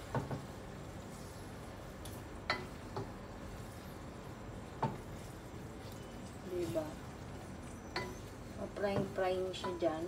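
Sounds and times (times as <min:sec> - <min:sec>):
faint steady frying hiss: 0:00.0 - 0:10.0.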